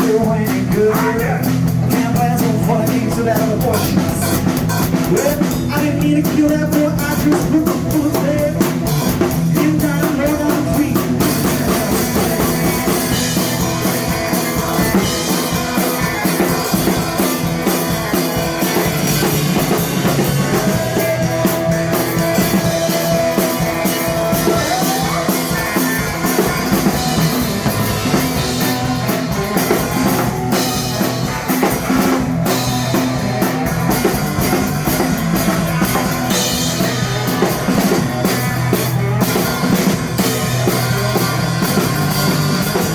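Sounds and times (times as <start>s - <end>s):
drum kit: 0.0s - 42.9s
electric guitar: 0.0s - 42.9s.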